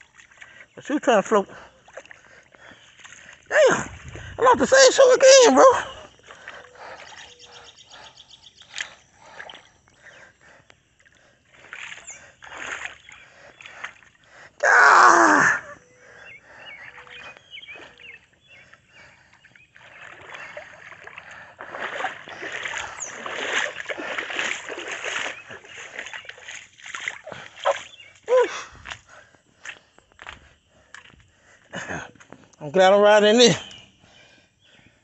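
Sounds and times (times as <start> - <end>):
footsteps splashing through water: 0.0 - 9.7, 10.8 - 14.4, 16.5 - 32.6.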